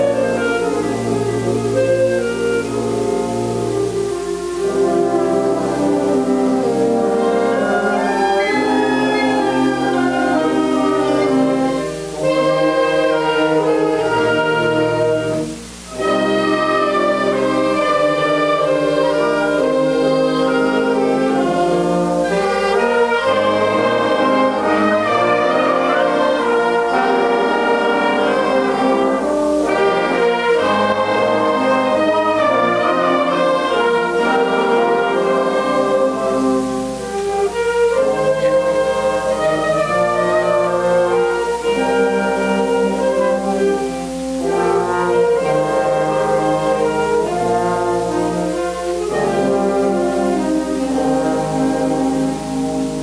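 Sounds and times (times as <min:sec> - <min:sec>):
wind band playing chords: 0:00.0 - 0:53.0.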